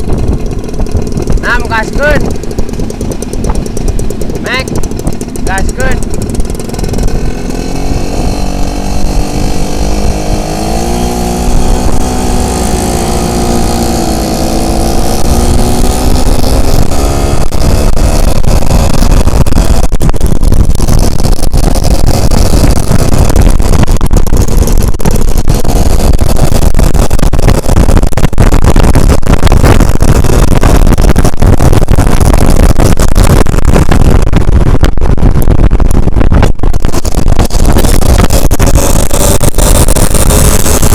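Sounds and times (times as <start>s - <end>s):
loud steady rushing noise: 0.0s - 40.9s
motorcycle engine revving: 0.0s - 40.9s.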